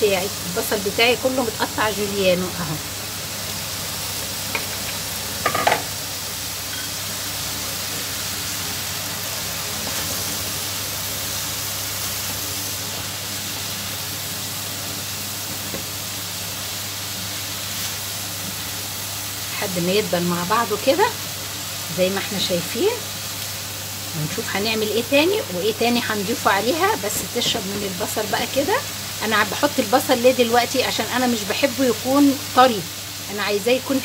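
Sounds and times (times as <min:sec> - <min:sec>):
meat and onions sizzling in a pan: 0:00.0 - 0:34.0.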